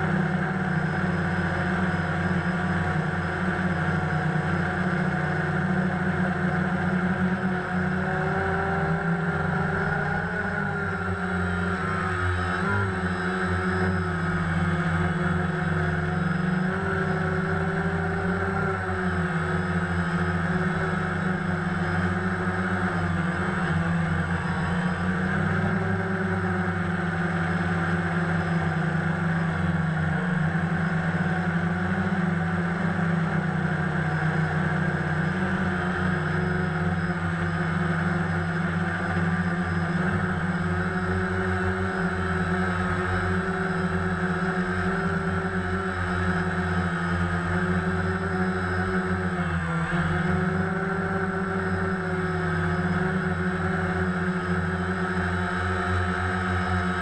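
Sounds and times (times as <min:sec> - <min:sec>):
quadcopter propellers humming: 0:00.0 - 0:57.0.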